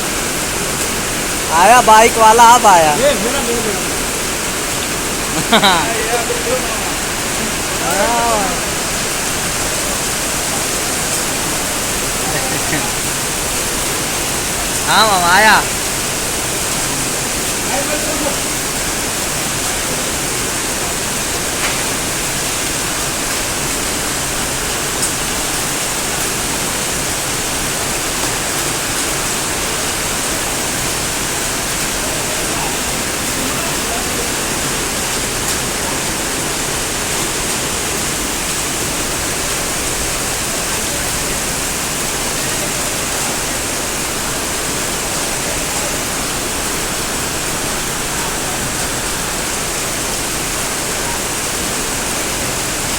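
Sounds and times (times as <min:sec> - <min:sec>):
floodwater rushing: 0:00.0 - 0:52.9.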